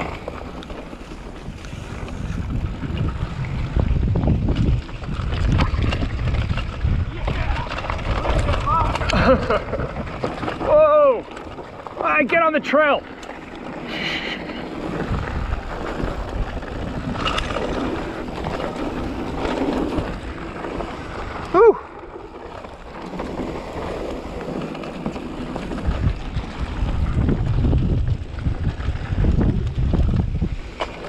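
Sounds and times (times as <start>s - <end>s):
wind buffeting microphone: 0.0s - 12.0s, 13.4s - 31.0s
bike tyres rolling on dirt trail: 0.0s - 31.0s.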